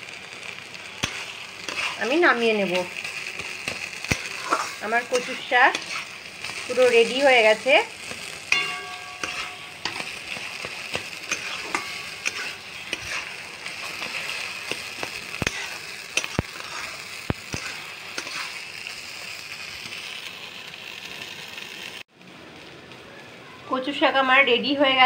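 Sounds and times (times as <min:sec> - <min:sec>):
mash sizzling in a pan: 0:00.0 - 0:24.9.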